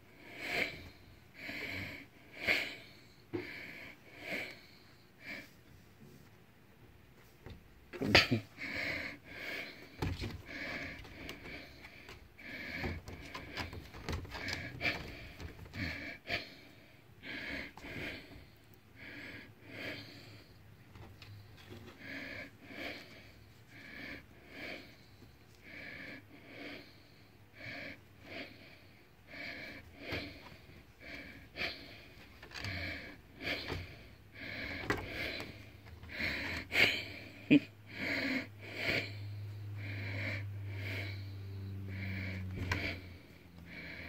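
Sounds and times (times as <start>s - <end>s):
low steady hum: 0.0s - 44.0s
person breathing wheezily: 8.0s - 44.0s.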